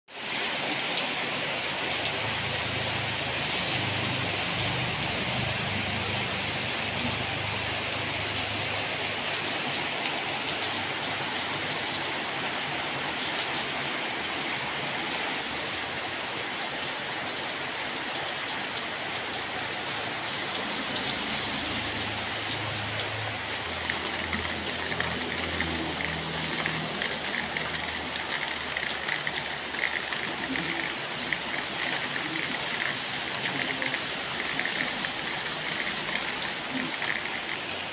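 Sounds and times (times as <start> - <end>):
sharp raindrops: 0.1 - 37.9
steady rain hiss: 0.1 - 37.9.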